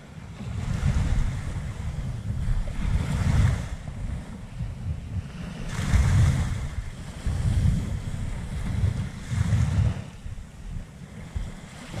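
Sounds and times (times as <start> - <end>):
small waves washing on sand: 0.0 - 12.0
wind buffeting microphone: 0.0 - 12.0.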